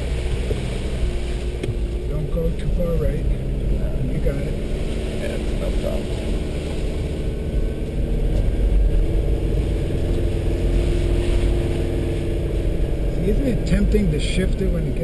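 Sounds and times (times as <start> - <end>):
car engine running: 0.0 - 15.0
tyres on rough dirt road: 0.0 - 15.0.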